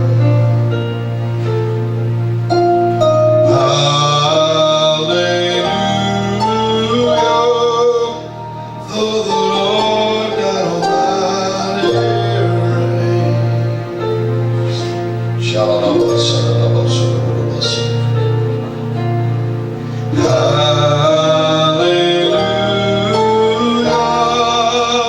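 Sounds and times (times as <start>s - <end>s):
worship music with held sung notes: 0.0s - 25.0s.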